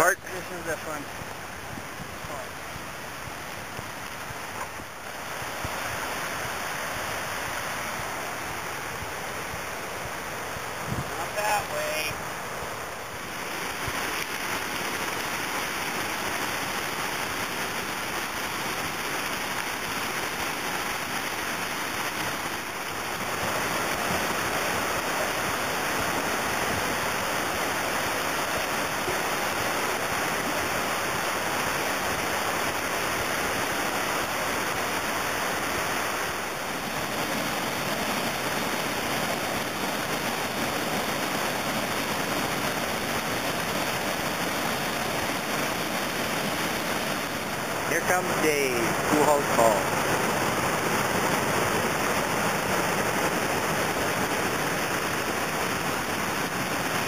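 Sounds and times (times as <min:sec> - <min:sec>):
river rapids rushing: 0:00.0 - 0:57.0.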